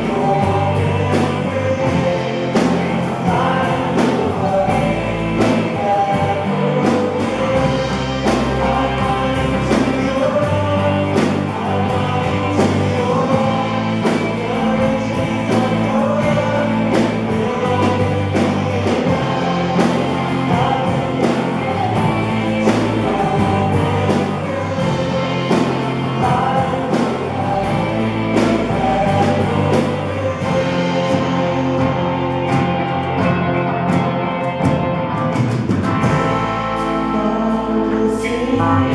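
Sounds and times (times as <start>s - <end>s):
person singing: 0.0s - 35.1s, 35.9s - 38.9s
guitar: 0.0s - 38.9s
steady drum beat: 0.0s - 38.9s.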